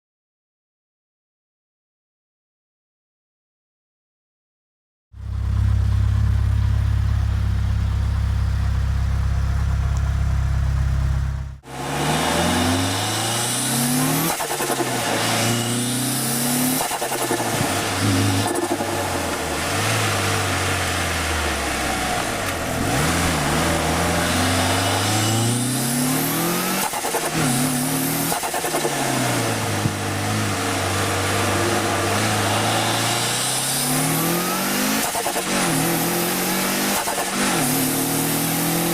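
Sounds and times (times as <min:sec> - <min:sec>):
car engine revving: 0:05.2 - 0:38.9.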